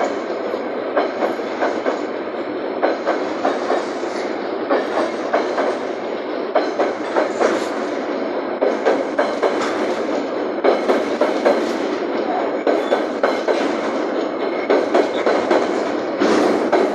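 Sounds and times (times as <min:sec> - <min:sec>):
train rumble: 0:00.0 - 0:16.9
train wheels clacking over rail joints: 0:00.0 - 0:16.9.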